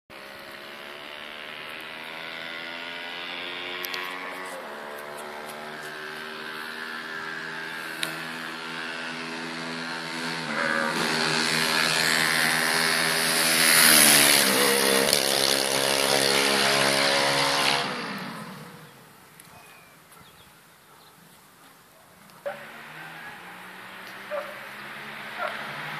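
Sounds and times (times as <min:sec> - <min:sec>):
motorcycle engine passing by: 0:00.1 - 0:19.1, 0:22.4 - 0:25.9.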